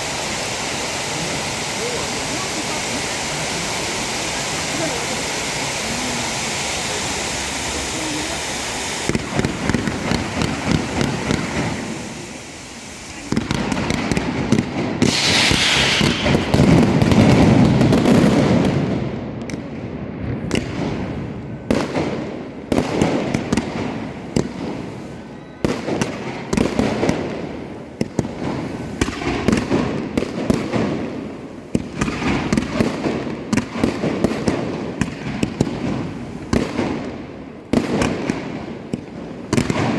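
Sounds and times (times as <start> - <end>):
firework bangs and crackles: 0.0 - 39.9
fireworks rushing noise: 0.0 - 39.9.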